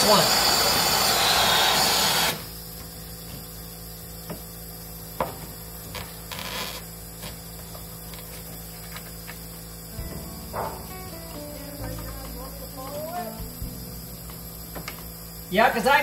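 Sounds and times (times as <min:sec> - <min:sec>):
faint steady hum: 0:02.3 - 0:16.0.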